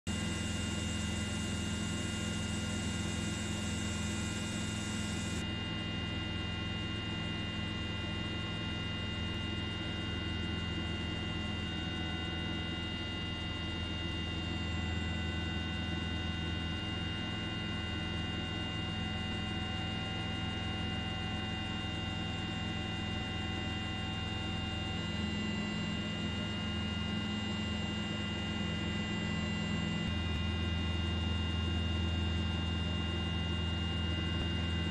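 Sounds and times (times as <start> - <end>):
helicopter engine and rotors: 0.1 - 34.9.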